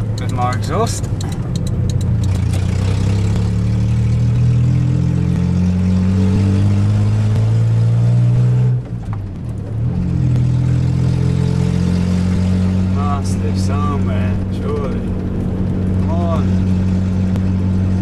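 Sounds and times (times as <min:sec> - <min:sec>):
car engine from inside cabin: 0:00.0 - 0:18.0.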